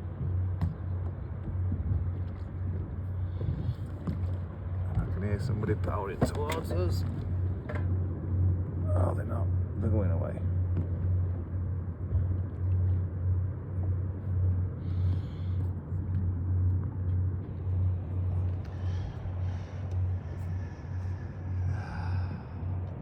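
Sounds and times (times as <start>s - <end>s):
boat engine rumbling: 0.0s - 23.0s.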